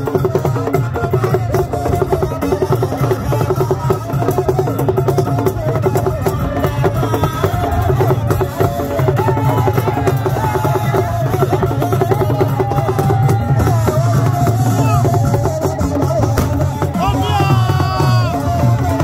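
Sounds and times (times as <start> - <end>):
drums playing fast rhythm: 0.0 - 19.0
people singing: 0.0 - 19.0.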